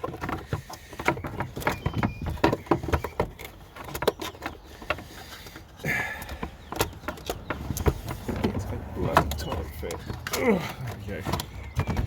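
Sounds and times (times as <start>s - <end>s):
plastic squeak: 0.0s - 4.8s, 6.8s - 12.0s
hard plastic clicking and rattling: 0.0s - 12.0s.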